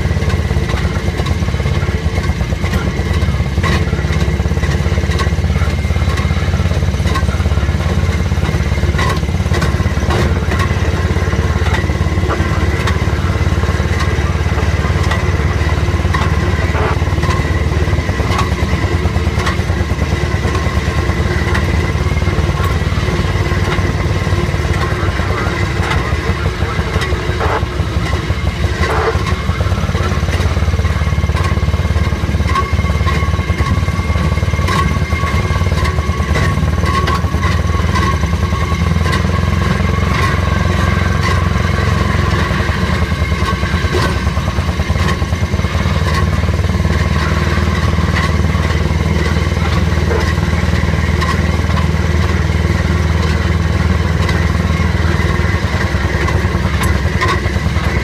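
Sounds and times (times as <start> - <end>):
rail motorcar engine running: 0.0 - 58.0
wheels clicking and knocking: 0.0 - 58.0.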